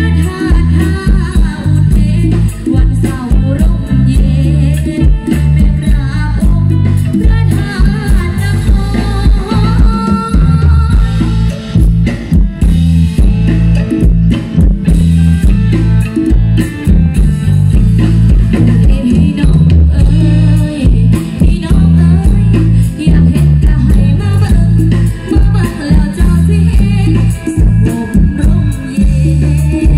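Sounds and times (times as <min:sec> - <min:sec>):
live band dance music: 0:00.0 - 0:29.9.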